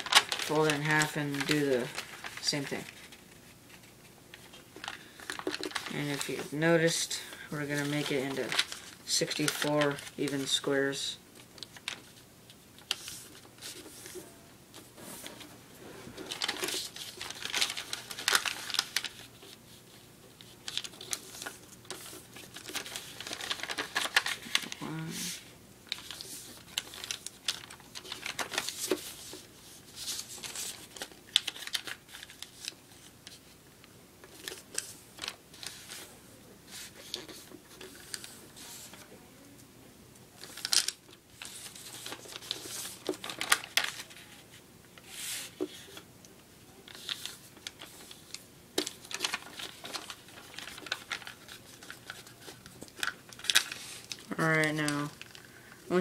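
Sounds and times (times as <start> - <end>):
paper being folded and creased: 0.0 - 7.0, 7.6 - 10.9, 12.8 - 14.3, 16.1 - 33.6, 34.2 - 39.1, 40.3 - 46.0, 46.7 - 55.4.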